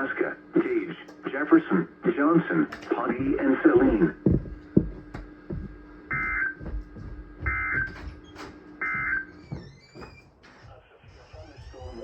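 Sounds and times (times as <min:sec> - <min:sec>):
faint steady hum: 0:00.0 - 0:10.2.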